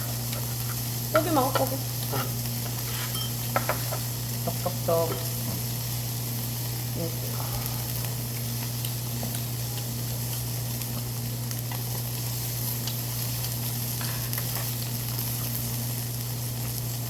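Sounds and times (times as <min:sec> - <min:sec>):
food sizzling on a grill: 0:00.0 - 0:17.0.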